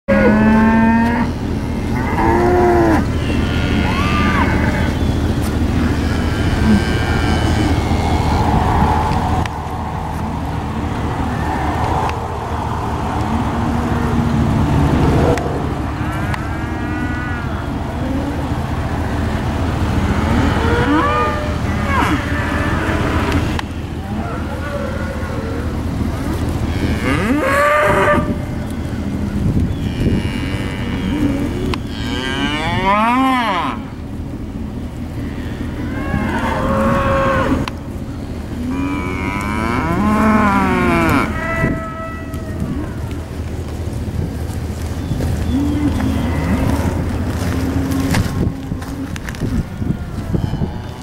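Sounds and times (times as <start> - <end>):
steers mooing and bawling: 0.0 - 51.0
low engine rumble: 0.1 - 51.0.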